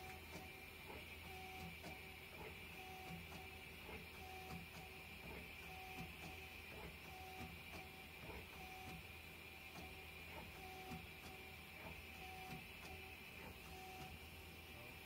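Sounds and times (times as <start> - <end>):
intermittent lower machine tone: 0.0 - 15.0.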